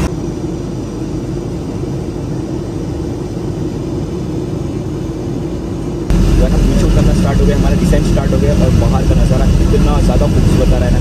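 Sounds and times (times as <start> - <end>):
jet airliner cabin drone: 0.0 - 11.0.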